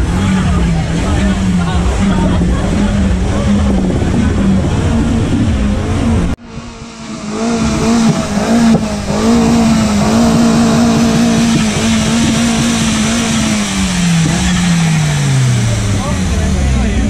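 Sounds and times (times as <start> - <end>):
car engine revving high: 0.0 - 17.0.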